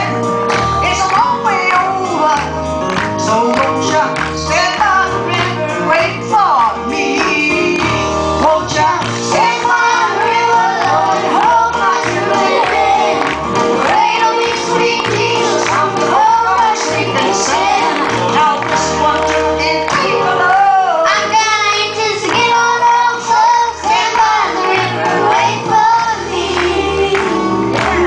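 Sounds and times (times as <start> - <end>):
children and woman singing gospel: 0.0 - 2.5, 3.2 - 28.0
instrumental accompaniment with bass: 0.0 - 28.0.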